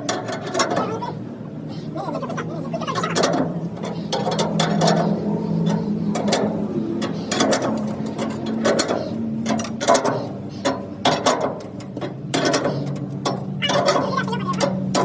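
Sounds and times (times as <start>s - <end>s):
metal clanks and knocks: 0.0s - 1.2s, 2.8s - 15.0s
machine hum: 0.0s - 15.0s.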